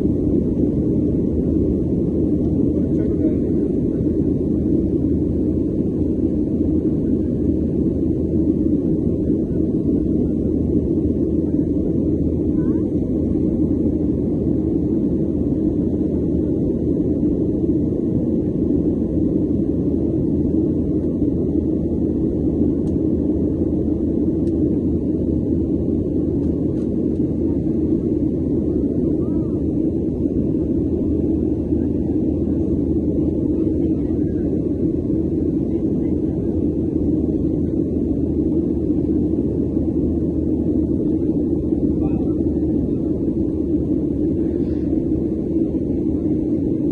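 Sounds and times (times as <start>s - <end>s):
jet airliner cabin rumble: 0.0s - 46.9s.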